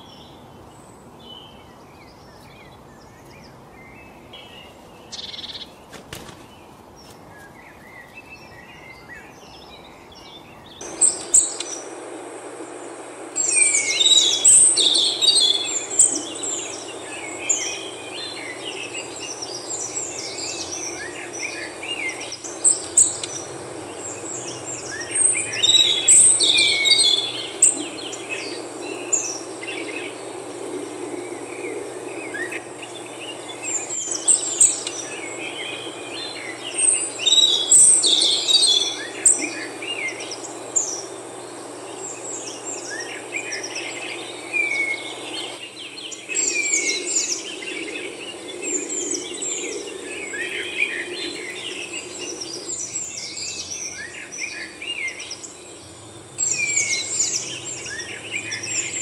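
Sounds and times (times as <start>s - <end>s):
low background hum: 0.0s - 59.0s
songbirds chirping and trilling: 0.0s - 59.0s.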